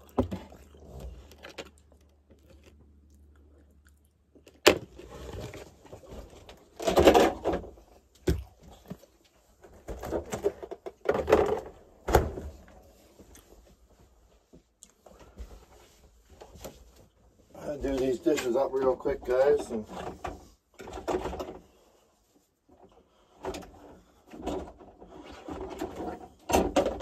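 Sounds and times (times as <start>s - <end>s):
items clattering and rustling: 4.4s - 27.0s.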